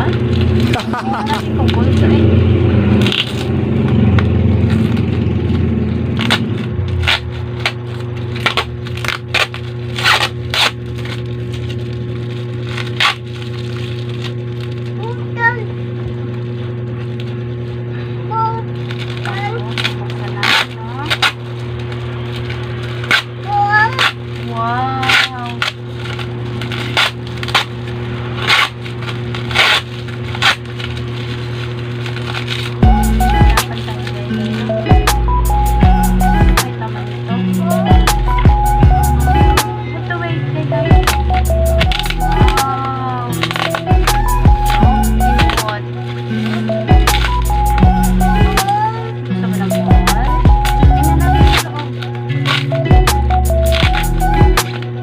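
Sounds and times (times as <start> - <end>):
plastic packaging crinkling: 0.0 - 34.9, 36.6 - 37.4, 40.9 - 55.0
steady low hum: 0.0 - 55.0.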